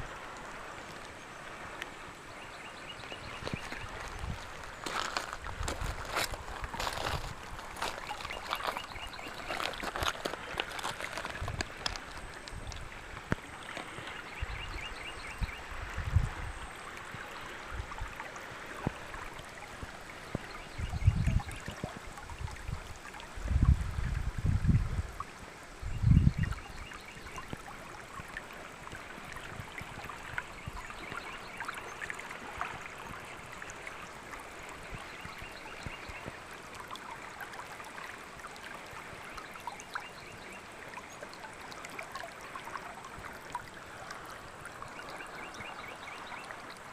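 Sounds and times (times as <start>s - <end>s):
river water flowing: 0.0s - 25.9s, 26.5s - 46.9s.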